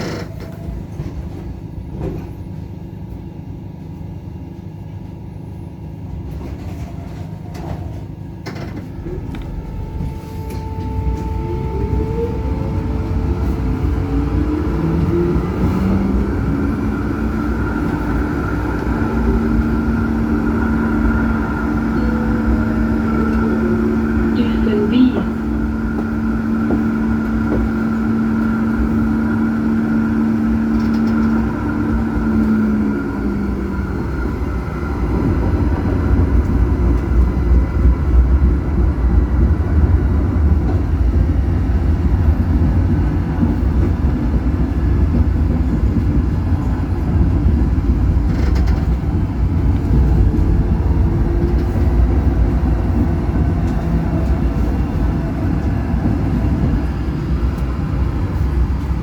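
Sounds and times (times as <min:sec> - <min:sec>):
tram electric whine: 0:00.0 - 0:59.0
wheels rumbling on track: 0:00.0 - 0:59.0.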